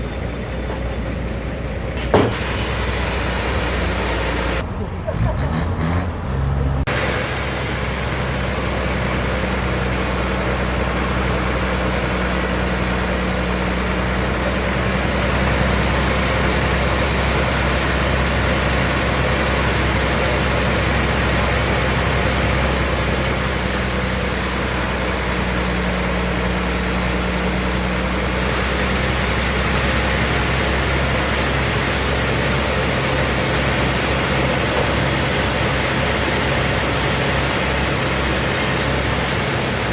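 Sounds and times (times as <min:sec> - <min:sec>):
sawmill machinery humming: 0:00.0 - 0:05.1, 0:06.8 - 0:39.9.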